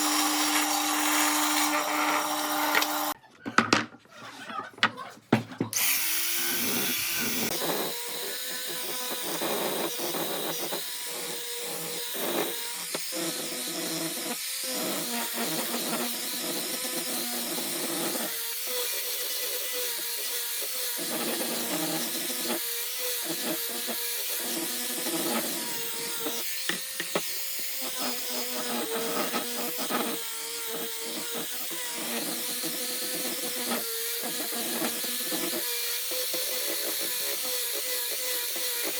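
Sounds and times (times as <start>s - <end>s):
electric power tool whining: 0.0s - 3.2s, 5.7s - 38.9s.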